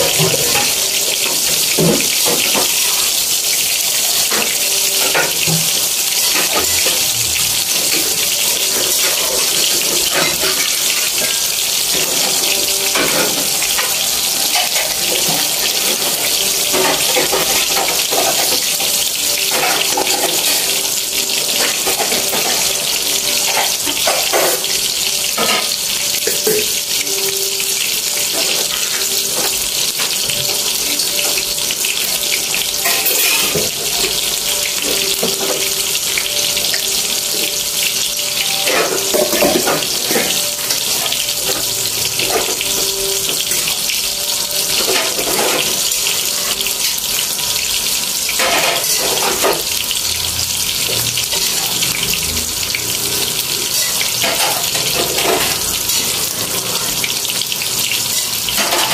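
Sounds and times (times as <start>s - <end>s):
vegetables sizzling in a wok: 0.0s - 58.9s.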